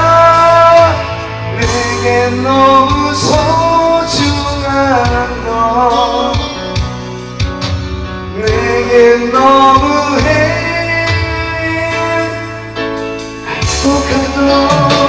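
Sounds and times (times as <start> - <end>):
man singing: 0.0 - 7.0, 8.2 - 15.0
pop ballad backing track: 0.0 - 15.0.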